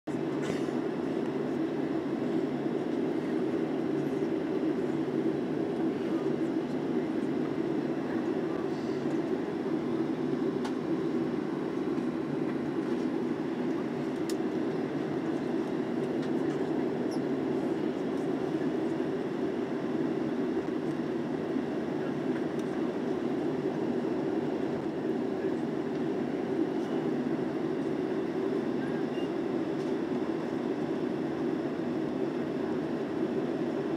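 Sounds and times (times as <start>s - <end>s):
airplane cabin noise: 0.1s - 33.9s
jet engines at low power: 0.1s - 33.9s.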